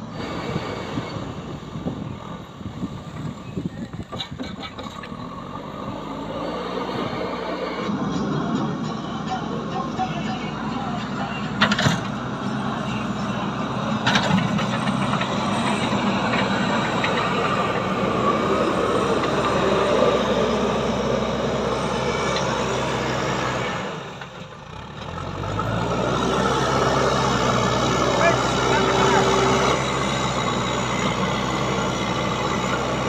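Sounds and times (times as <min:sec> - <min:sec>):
heavy machinery engine running: 0:00.0 - 0:33.0.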